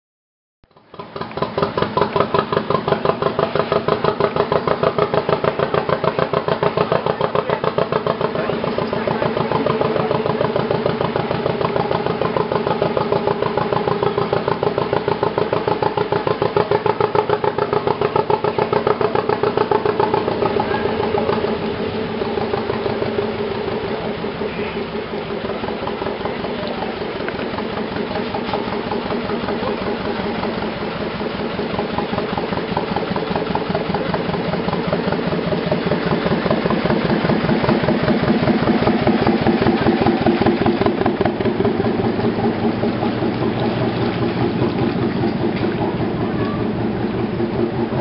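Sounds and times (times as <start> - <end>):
boat diesel engine running: 0.7 - 48.0.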